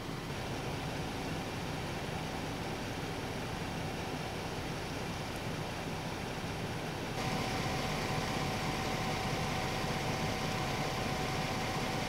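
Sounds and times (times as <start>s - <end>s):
car engine idling: 0.0s - 12.0s
thin steady whine: 0.0s - 12.0s.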